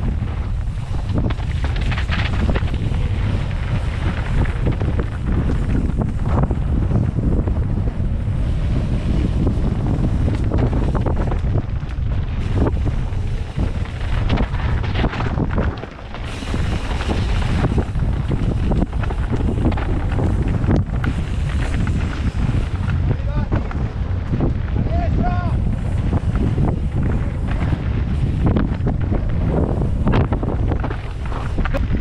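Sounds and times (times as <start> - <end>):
low rumble: 0.0 - 32.0
wind buffeting microphone: 0.0 - 32.0.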